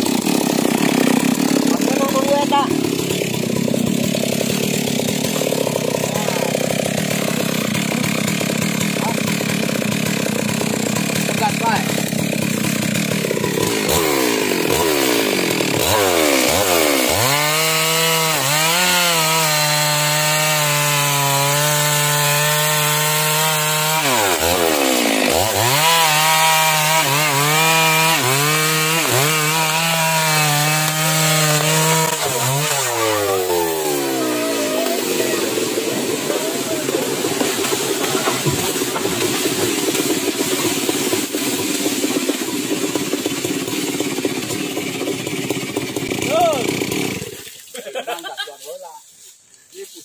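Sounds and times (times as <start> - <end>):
chainsaw cutting wood: 0.0 - 48.4.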